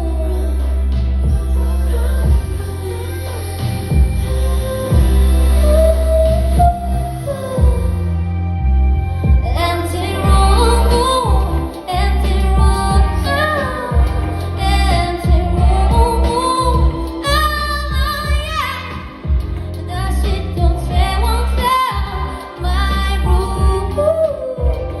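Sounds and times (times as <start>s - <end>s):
drum and bass beat: 0.0s - 8.1s, 9.1s - 25.0s
woman singing: 0.0s - 8.4s, 9.2s - 25.0s.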